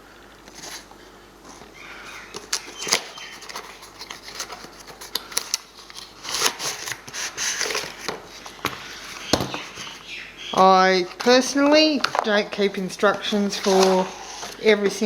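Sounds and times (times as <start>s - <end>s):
packaging rustling and crinkling: 0.4s - 10.2s, 10.9s - 15.0s.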